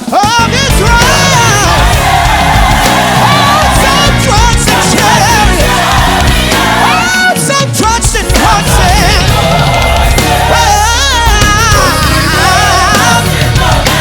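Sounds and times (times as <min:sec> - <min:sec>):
band with bass and drums: 0:00.0 - 0:14.0
lead singer: 0:00.0 - 0:14.0
choir singing: 0:00.1 - 0:14.0.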